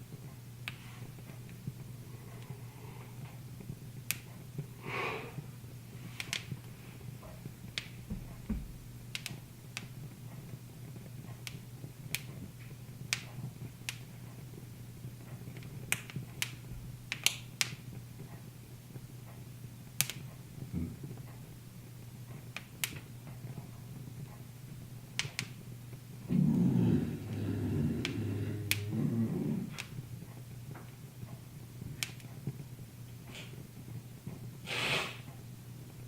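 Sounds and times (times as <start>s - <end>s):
low steady hum: 0.0s - 36.0s
wood fire crackling: 0.0s - 36.0s.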